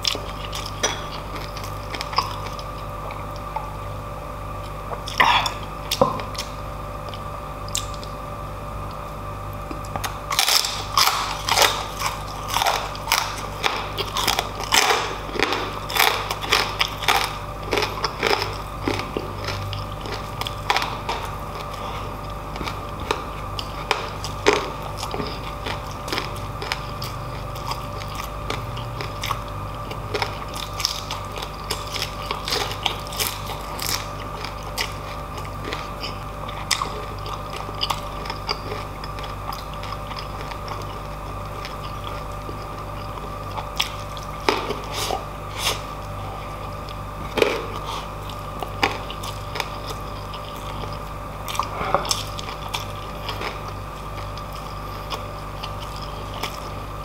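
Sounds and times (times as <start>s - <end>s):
person chewing and biting: 0.0s - 3.9s, 4.5s - 8.2s, 8.8s - 57.0s
crispy food crunching: 0.0s - 57.0s.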